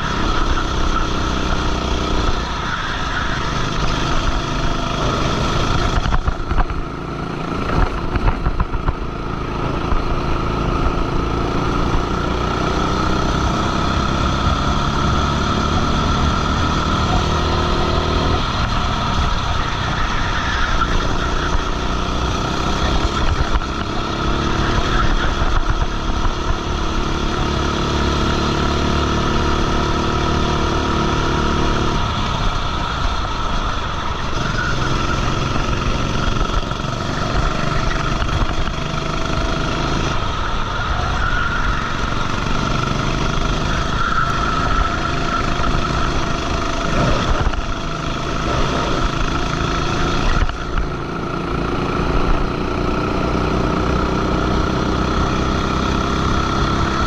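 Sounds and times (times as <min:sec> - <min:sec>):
go-kart engine running hard: 0:00.0 - 0:57.0.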